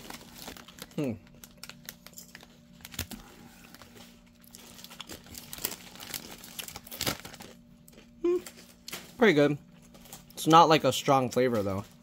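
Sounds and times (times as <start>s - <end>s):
chip bags crinkling: 0.0s - 12.0s.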